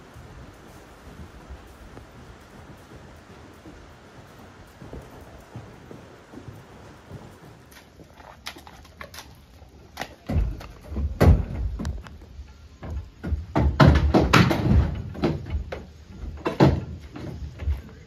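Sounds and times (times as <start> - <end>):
horse hooves on trailer floor: 0.0 - 18.0.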